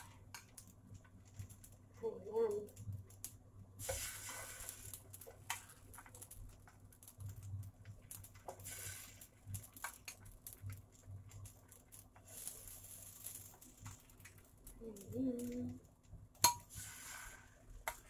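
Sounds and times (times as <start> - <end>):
batter frying in oil: 0.0 - 18.0.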